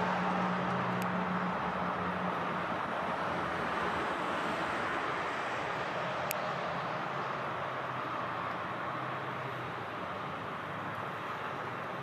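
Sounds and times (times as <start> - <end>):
road traffic: 0.0 - 12.0
vehicle engine hum: 0.0 - 12.0.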